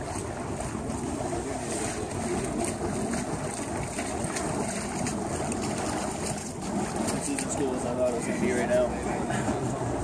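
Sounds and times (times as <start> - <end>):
surf washing on shore: 0.0 - 10.0
wind buffeting microphone: 0.0 - 10.0.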